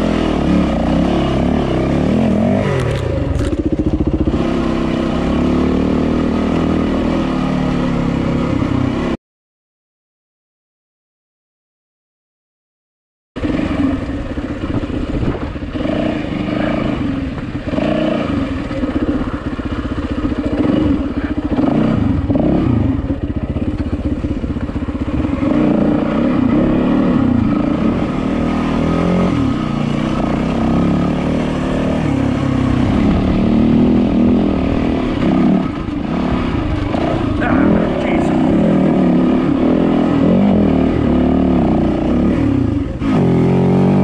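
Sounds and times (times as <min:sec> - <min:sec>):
dirt bike engine running: 0:00.0 - 0:09.2, 0:13.4 - 0:44.0.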